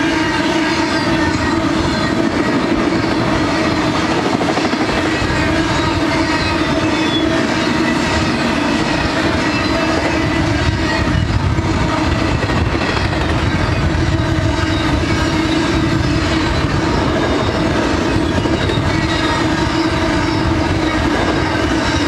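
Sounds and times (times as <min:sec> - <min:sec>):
steady whining tone: 0:00.0 - 0:22.0
train wheels rumbling on rails: 0:00.0 - 0:22.0.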